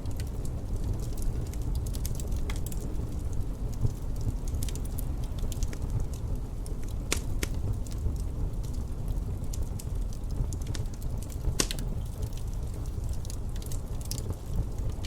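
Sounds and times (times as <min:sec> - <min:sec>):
low wind rumble: 0:00.0 - 0:15.0
wood fire crackling: 0:00.0 - 0:15.0.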